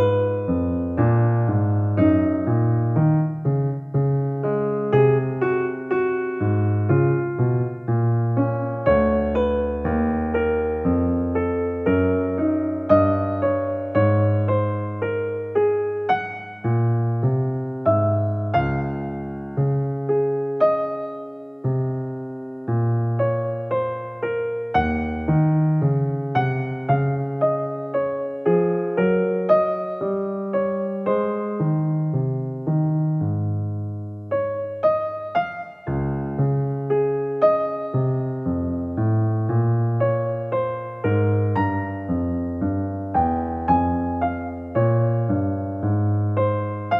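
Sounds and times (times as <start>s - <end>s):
gentle piano melody: 0.0s - 46.9s.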